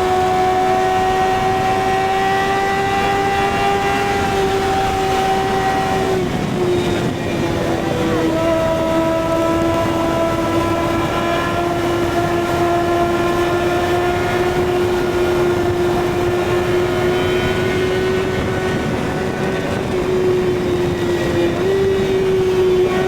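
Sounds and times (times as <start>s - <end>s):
motorcycle engine at high revs: 0.0s - 23.0s
wind rushing: 2.8s - 23.0s.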